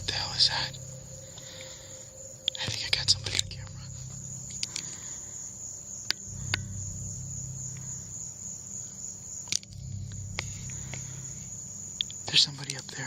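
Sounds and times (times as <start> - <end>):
low rumble: 0.0 - 12.5
crickets chirring: 0.0 - 13.0.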